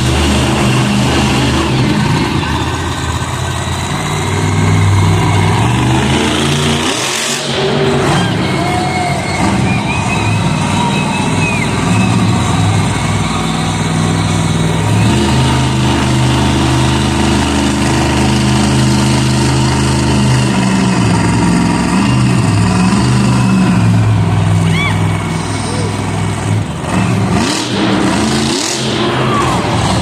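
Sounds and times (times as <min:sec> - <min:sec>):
monster truck engine running: 0:00.0 - 0:30.0.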